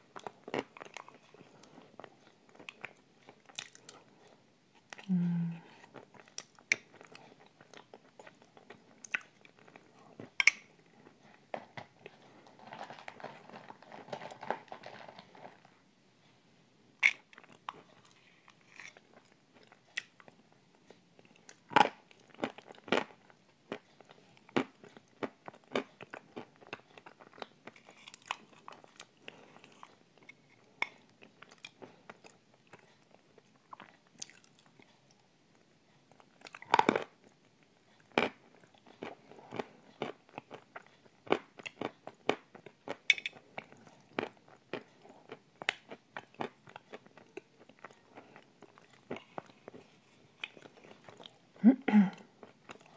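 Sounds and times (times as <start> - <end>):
chewing: 0.1 - 15.7, 17.0 - 52.9.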